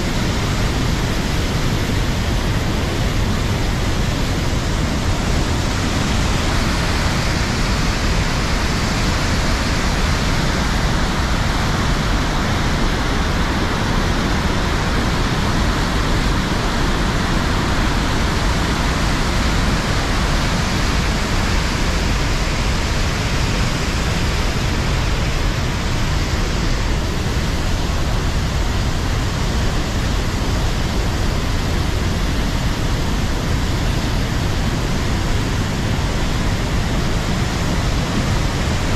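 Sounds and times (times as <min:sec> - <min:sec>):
river rapids: 0:00.0 - 0:38.9
waterfall rushing: 0:00.0 - 0:38.9.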